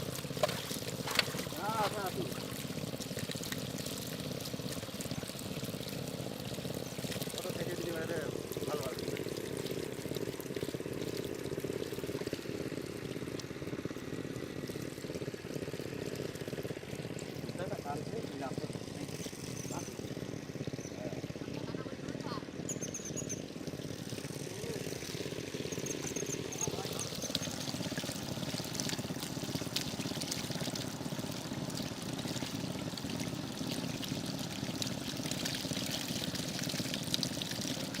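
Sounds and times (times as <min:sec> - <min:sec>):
water pouring: 0:00.0 - 0:21.5, 0:23.3 - 0:38.0
small splashes: 0:00.0 - 0:22.6, 0:23.3 - 0:38.0
small engine chugging: 0:00.0 - 0:38.0.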